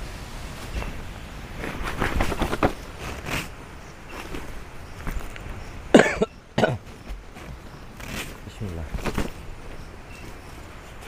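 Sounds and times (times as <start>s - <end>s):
foil blanket crinkling: 0.0s - 5.5s, 6.8s - 11.0s.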